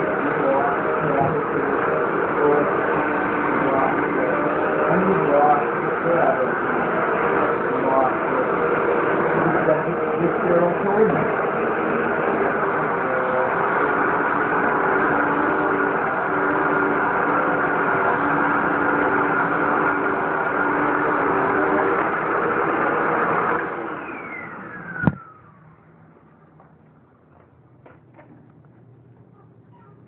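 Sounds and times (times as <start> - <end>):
vacuum cleaner motor whine: 0.0 - 26.8.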